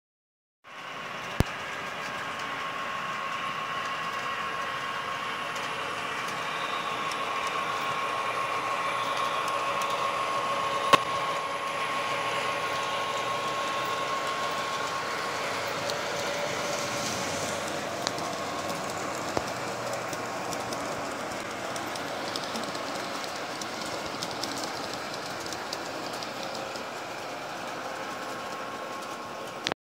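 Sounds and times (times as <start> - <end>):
metal wheels on rails: 0.7 - 29.7
model train motors whirring: 0.7 - 29.7
high steady hum: 0.8 - 29.8.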